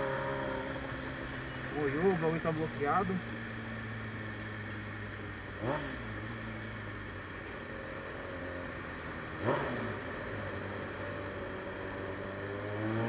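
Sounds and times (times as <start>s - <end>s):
motorcycle engine idling: 0.0s - 12.7s.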